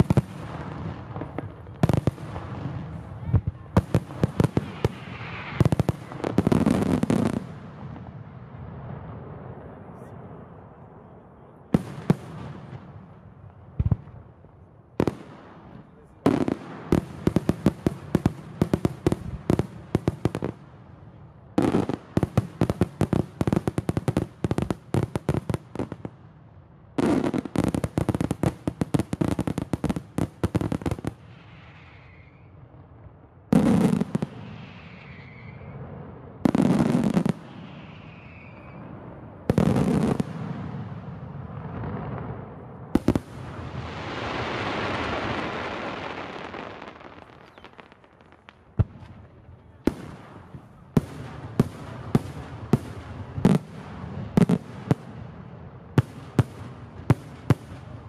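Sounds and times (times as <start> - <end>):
firework bangs: 0.0 - 10.1, 11.7 - 14.4, 15.0 - 20.7, 26.9 - 58.0.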